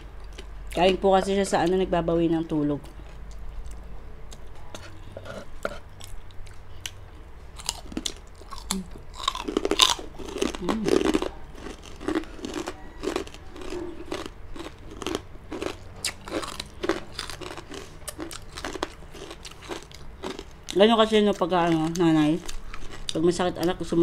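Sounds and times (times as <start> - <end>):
crunchy pork being chewed: 0.0 - 1.8, 2.7 - 24.0.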